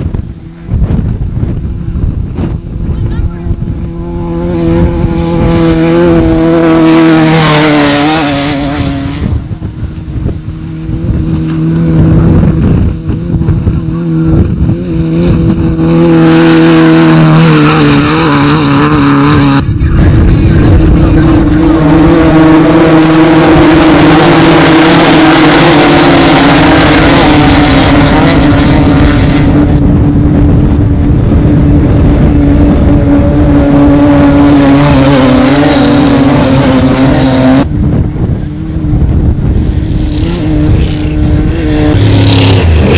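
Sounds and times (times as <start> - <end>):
race vehicle engines running hard: 0.0 - 42.9.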